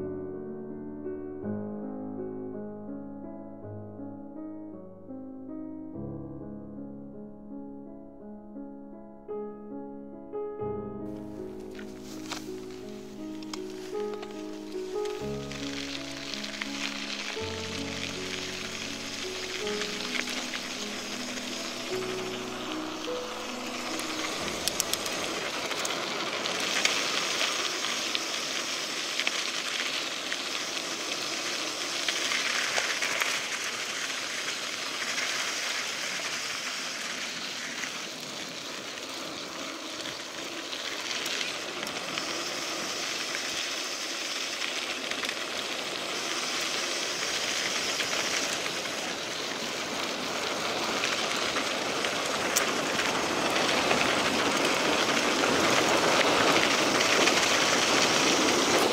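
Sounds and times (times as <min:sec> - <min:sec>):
tyres rolling on gravel: 0:11.1 - 0:58.9
bike rattling over bumps: 0:11.2 - 0:58.9.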